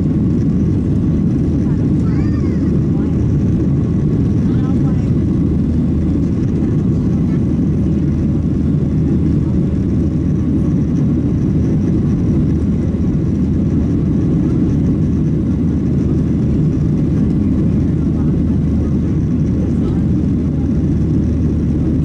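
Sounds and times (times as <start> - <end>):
jet engine roar in cabin: 0.0 - 22.0.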